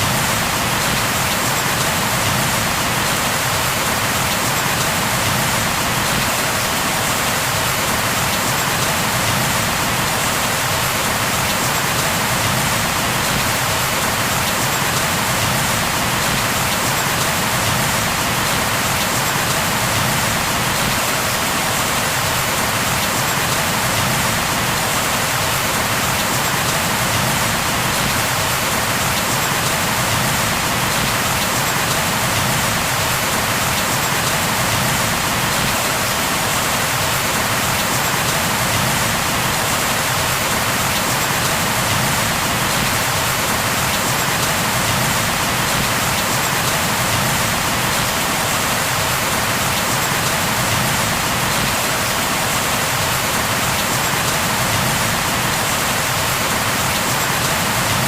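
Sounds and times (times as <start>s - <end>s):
rain falling on a surface: 0.0s - 58.0s.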